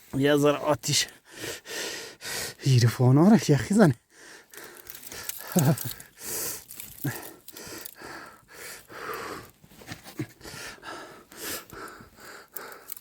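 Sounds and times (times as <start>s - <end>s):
person breathing hard and wheezing: 1.2s - 2.6s, 4.0s - 13.0s.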